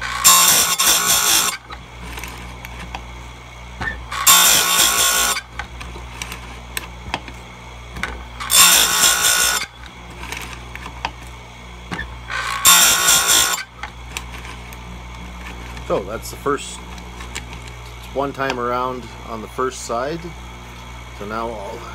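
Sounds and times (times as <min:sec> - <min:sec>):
grinding wheel grinding chain cutters: 0:00.0 - 0:03.0, 0:03.8 - 0:19.0
motor humming: 0:00.0 - 0:21.9.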